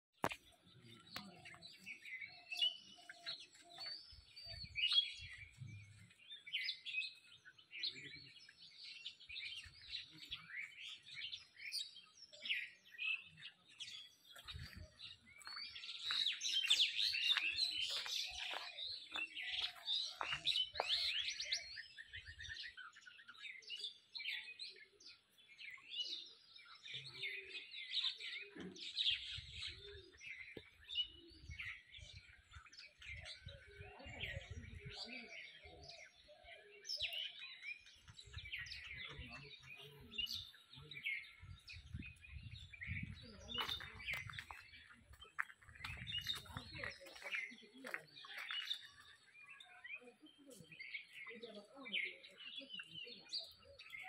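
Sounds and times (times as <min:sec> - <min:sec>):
small birds chirping: 0:00.1 - 0:54.0.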